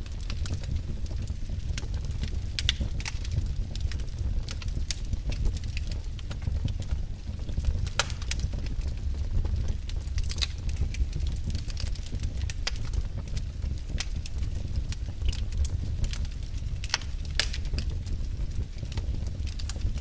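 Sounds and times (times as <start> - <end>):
burning logs crackling and popping: 0.0 - 20.0
steady low rumble: 0.0 - 20.0.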